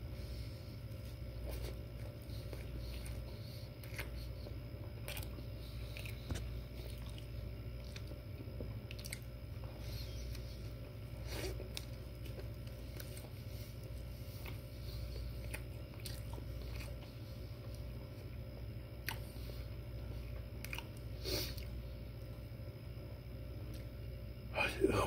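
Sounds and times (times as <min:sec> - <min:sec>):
chewing and biting food: 0:00.8 - 0:22.3.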